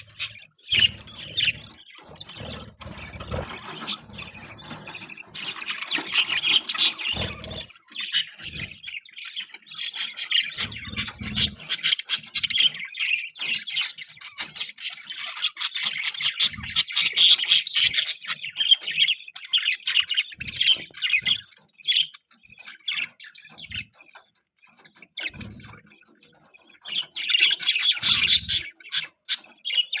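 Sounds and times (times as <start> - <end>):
budgies chirping and squawking: 0.0 - 30.0.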